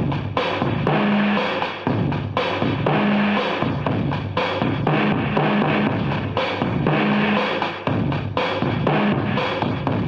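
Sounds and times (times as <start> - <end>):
pounding drum kit: 0.0 - 10.0.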